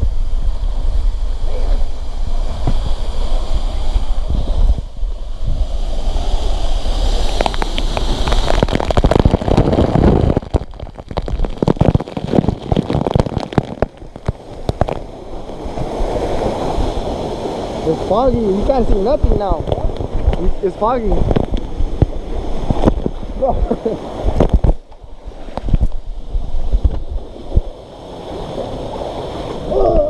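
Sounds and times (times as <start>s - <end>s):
crackling noise: 0.0s - 29.6s
waterfall and stream rushing: 0.0s - 30.0s
wind rumble on microphone: 0.0s - 30.0s.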